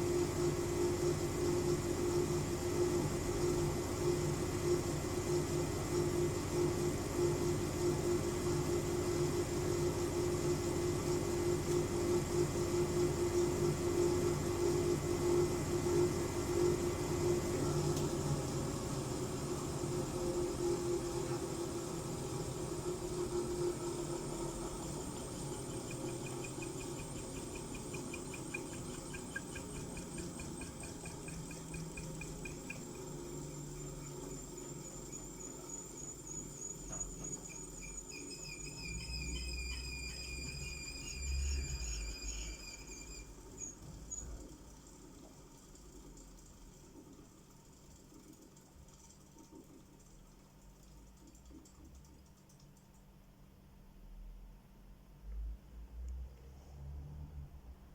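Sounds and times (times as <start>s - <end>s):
washing machine drum humming: 0.0s - 41.2s, 41.8s - 53.2s.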